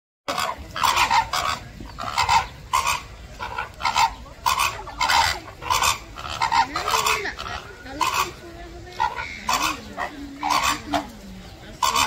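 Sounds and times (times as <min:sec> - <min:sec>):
flamingos honking: 0:00.3 - 0:12.0.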